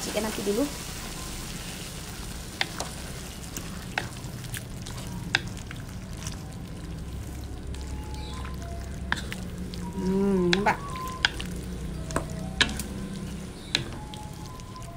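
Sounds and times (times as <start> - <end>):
food sizzling in a pan: 0.0 - 14.9.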